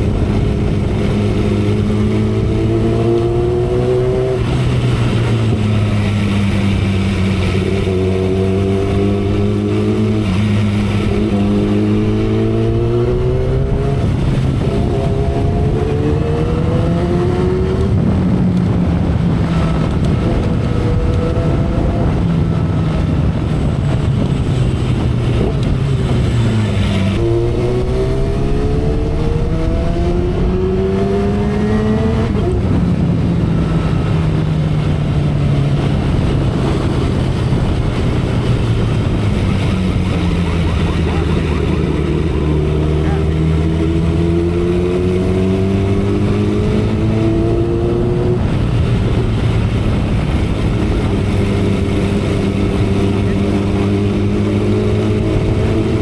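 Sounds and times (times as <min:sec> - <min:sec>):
motorcycle engine accelerating: 0:00.0 - 0:56.0
wind on microphone: 0:00.0 - 0:56.0.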